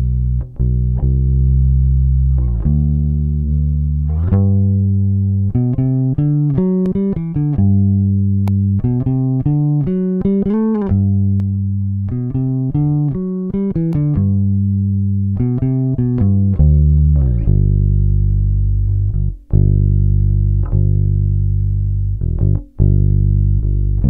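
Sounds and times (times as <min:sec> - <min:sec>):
plucked bass guitar notes: 0:00.0 - 0:24.0.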